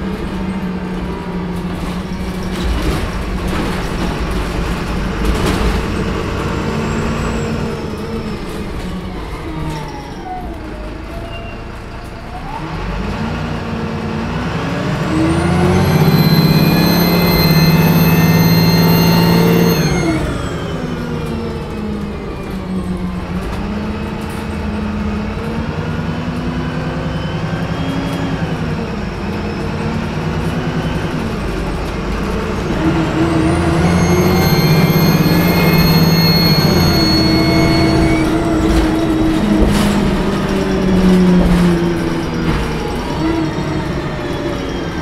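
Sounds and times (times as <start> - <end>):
diesel bus engine: 0.0 - 45.0
high turbo whine: 0.0 - 45.0.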